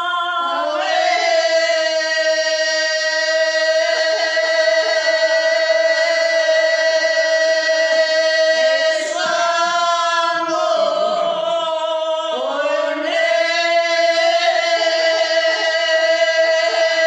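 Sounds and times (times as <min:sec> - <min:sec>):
women singing unaccompanied: 0:00.0 - 0:17.0.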